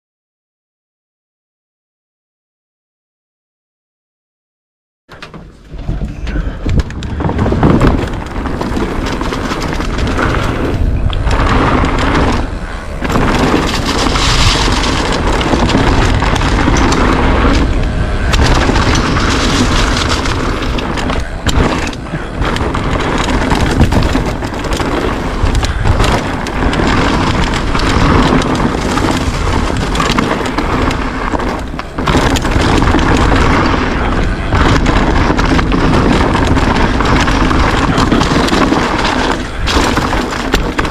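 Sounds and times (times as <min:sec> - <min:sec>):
bike rattling and knocking: 0:05.1 - 0:40.9
tyres rolling on dirt and rock: 0:05.1 - 0:40.9
wind buffeting microphone: 0:05.5 - 0:40.9.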